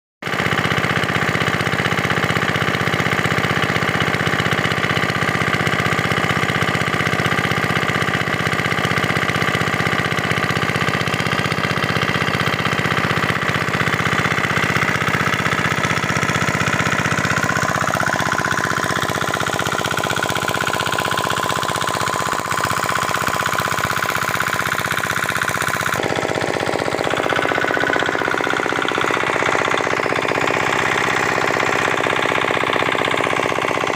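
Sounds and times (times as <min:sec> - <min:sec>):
diesel engine knocking: 0:00.2 - 0:33.9.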